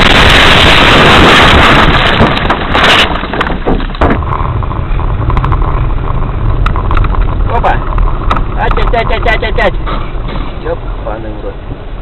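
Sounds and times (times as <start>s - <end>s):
low rumble: 0.0s - 12.0s
vehicle road and wind noise: 0.0s - 12.0s.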